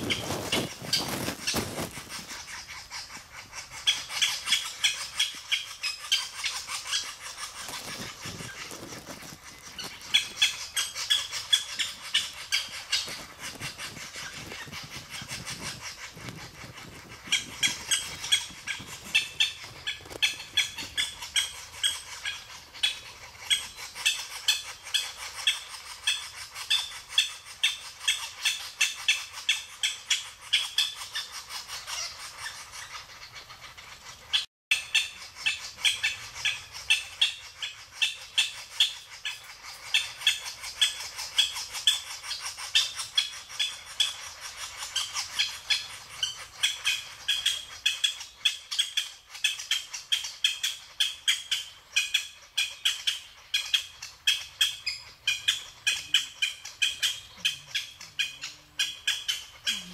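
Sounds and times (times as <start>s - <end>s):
woodpecker chicks begging calls: 0.0s - 59.9s.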